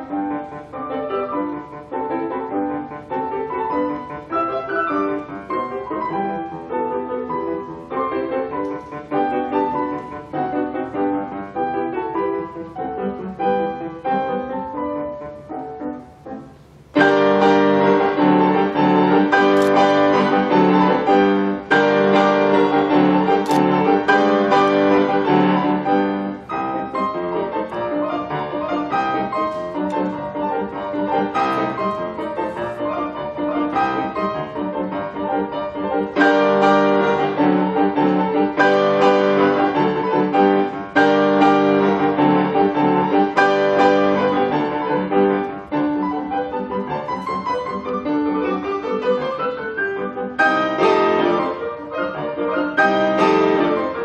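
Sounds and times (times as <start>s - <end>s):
grand piano classical playing: 0.0s - 54.0s.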